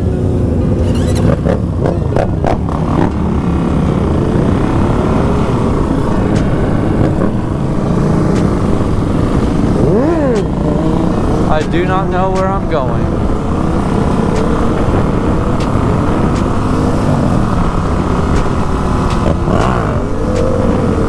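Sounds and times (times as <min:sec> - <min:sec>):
dirt bike engine accelerating: 0:00.0 - 0:21.0.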